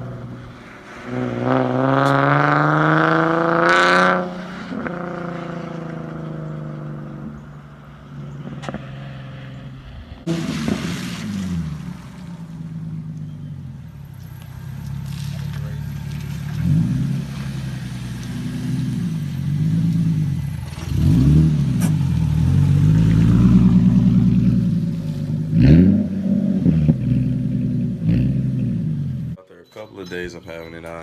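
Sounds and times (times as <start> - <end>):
car engine idling and revving: 0.0 - 29.4.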